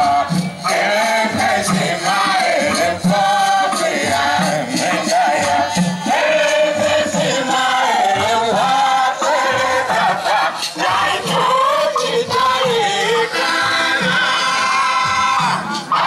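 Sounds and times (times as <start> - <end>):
group singing church song: 0.0 - 16.0.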